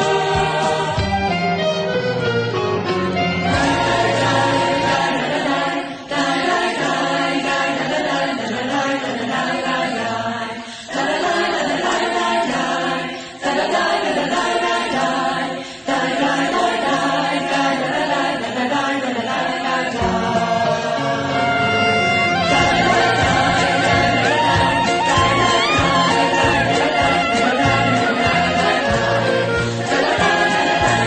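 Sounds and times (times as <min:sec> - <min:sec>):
choir singing: 0:00.0 - 0:02.2, 0:02.8 - 0:31.0.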